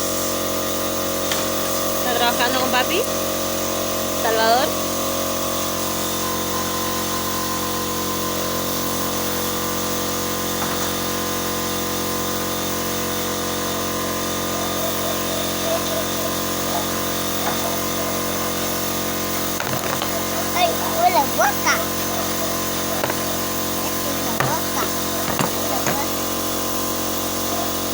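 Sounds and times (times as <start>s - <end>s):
electric motor humming: 0.0s - 27.9s.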